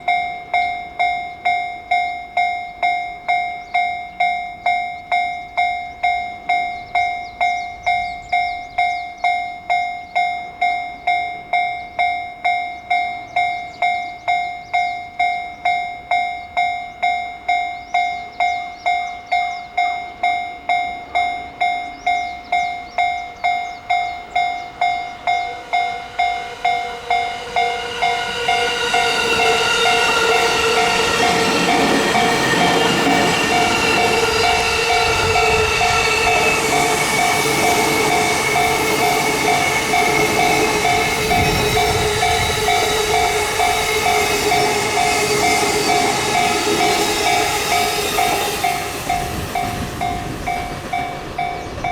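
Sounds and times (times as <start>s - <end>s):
approaching train: 0.0s - 51.9s
level crossing warning bell: 0.0s - 51.9s.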